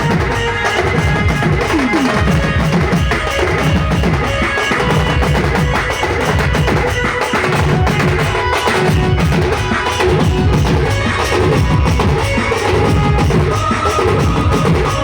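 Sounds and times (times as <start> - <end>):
fast folk drumming: 0.0 - 15.0.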